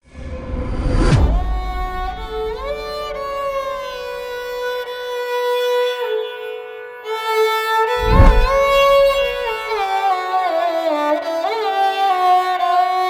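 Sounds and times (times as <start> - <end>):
bowed string melody: 1.1 - 13.0.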